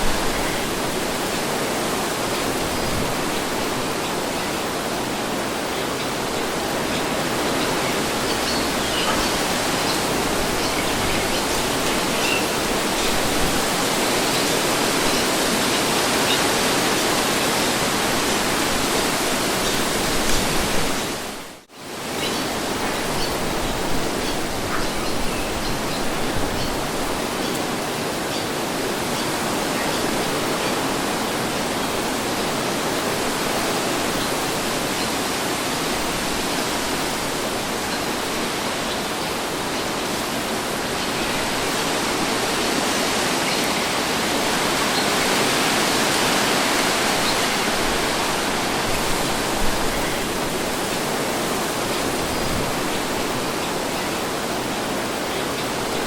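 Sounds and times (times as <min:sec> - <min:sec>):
wind blowing: 0:00.0 - 0:56.0.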